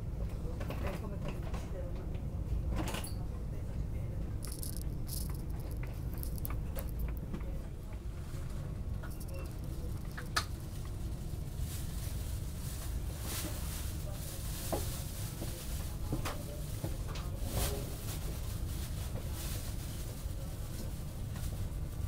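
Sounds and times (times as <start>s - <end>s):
train rumble from inside carriage: 0.0s - 22.0s.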